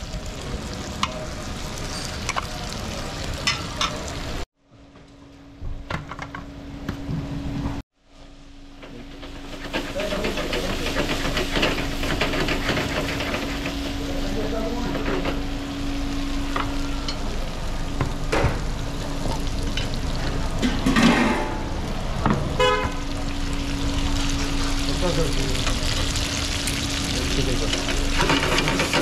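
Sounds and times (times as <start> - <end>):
food sizzling in frying: 0.0 - 4.5, 9.2 - 29.0.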